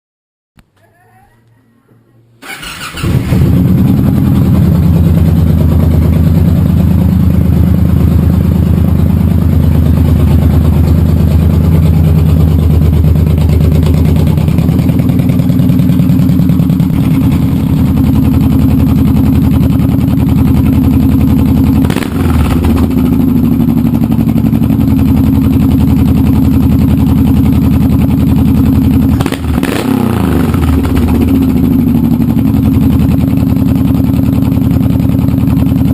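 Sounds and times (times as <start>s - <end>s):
motorcycle engine idling: 2.4s - 35.9s.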